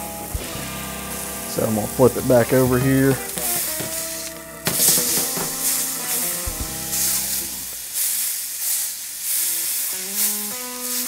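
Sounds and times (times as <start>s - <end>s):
steak sizzling in a skillet: 0.0s - 11.0s.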